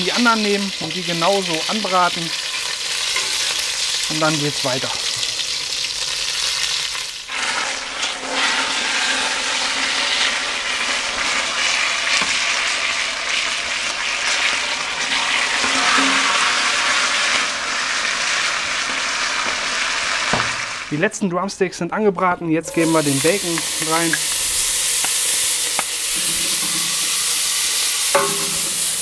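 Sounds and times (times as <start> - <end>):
chicken sizzling in hot oil: 0.0 - 20.9, 22.7 - 29.0.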